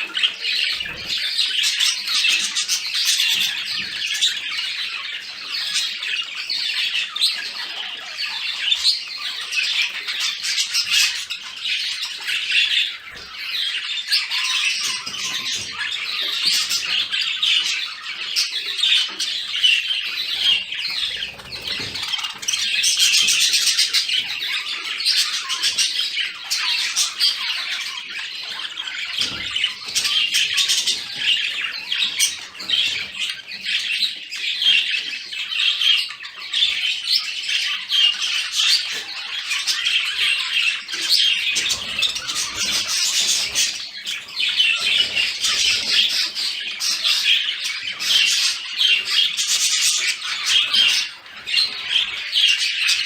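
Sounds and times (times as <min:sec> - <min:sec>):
budgerigars chattering and warbling: 0:00.0 - 0:53.0.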